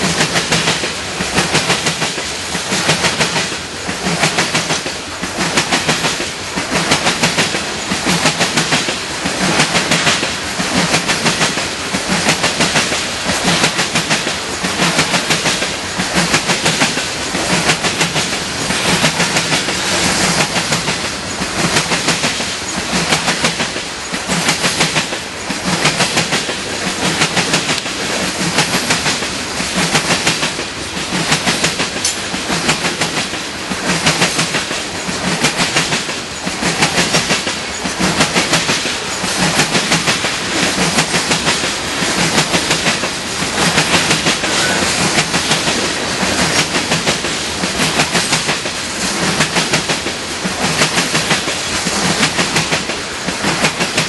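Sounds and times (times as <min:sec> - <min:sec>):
rolling rumble of train cars: 0:00.0 - 0:54.0
train wheels clicking over rail joints: 0:00.0 - 0:54.0.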